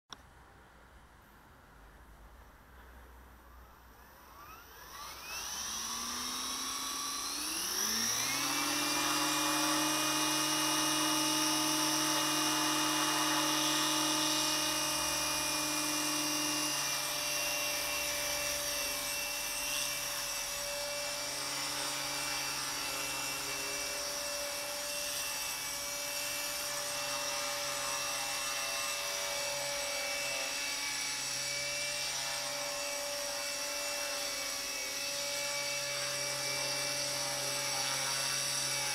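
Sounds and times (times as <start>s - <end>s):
rc helicopter motor whine: 3.9s - 38.9s.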